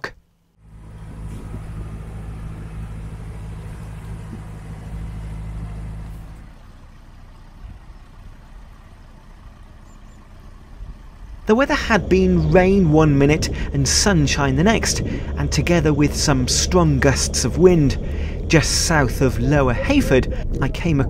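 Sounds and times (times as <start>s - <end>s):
boat engine humming: 0.6s - 21.0s.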